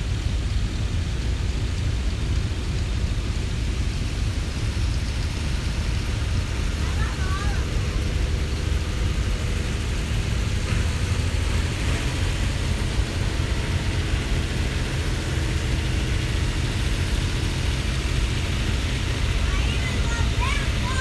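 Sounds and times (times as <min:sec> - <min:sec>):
tractor engine rumbling: 0:00.0 - 0:21.0.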